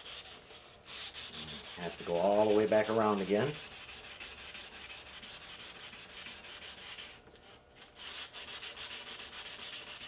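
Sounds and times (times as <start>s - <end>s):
sandpaper rubbing on putty: 0.0s - 7.2s, 8.0s - 10.0s.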